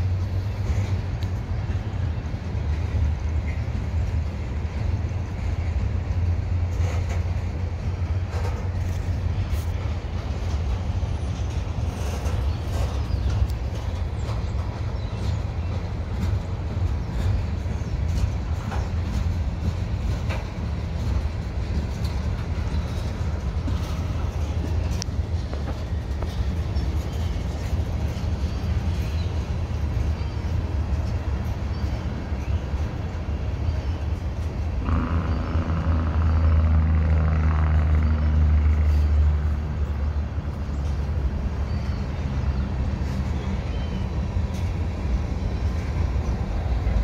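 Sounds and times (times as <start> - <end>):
steel wheels rumbling on rail: 0.0 - 47.0.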